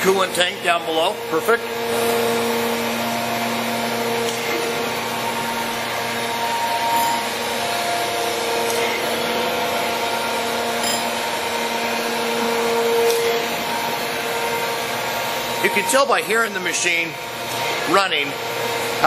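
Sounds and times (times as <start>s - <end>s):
surface grinder running: 0.0s - 19.0s.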